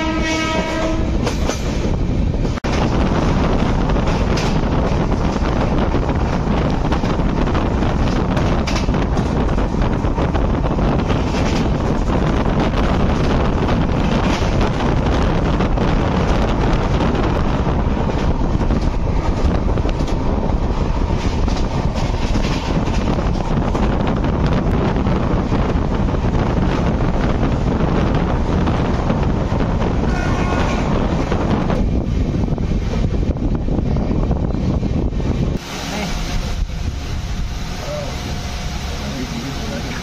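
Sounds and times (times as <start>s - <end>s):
wind on microphone: 0.0s - 38.9s
train wheels rumbling on track: 0.0s - 40.0s.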